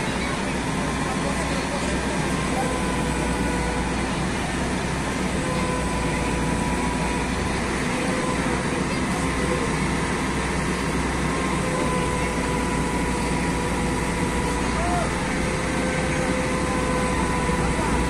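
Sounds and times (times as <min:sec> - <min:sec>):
diesel engine running: 0:00.0 - 0:18.0
faint steady whine: 0:00.0 - 0:18.0.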